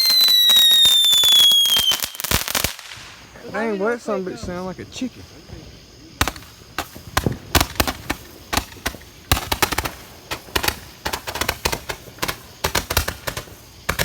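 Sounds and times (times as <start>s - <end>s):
firework cracks and bangs: 0.0s - 3.7s, 5.4s - 14.0s.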